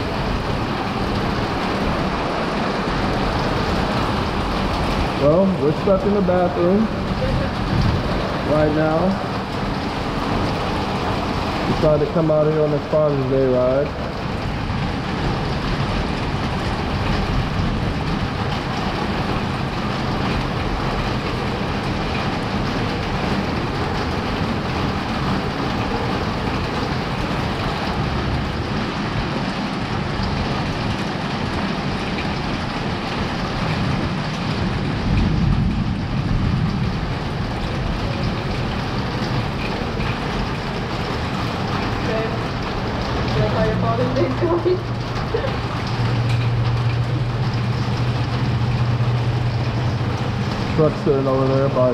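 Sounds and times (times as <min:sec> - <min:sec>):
low rumble: 0:00.0 - 0:51.9
rain running off a roof: 0:00.0 - 0:51.9.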